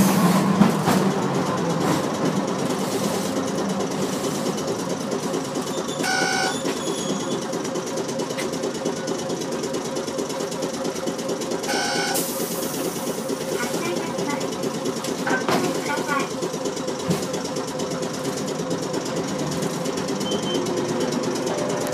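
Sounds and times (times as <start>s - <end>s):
streetcar motor drone: 0.0s - 21.9s
wheel noise on rails: 0.0s - 21.9s.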